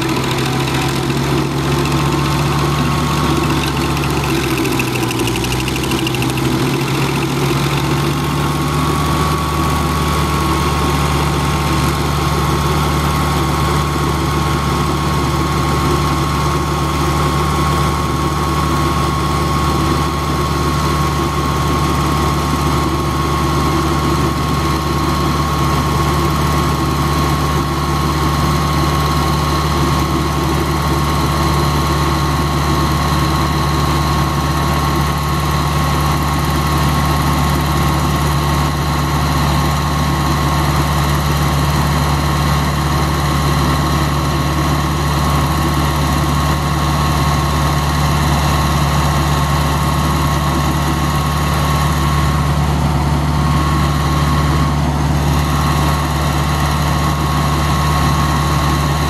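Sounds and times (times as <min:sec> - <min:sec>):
stump grinder engine running: 0:00.0 - 0:59.0.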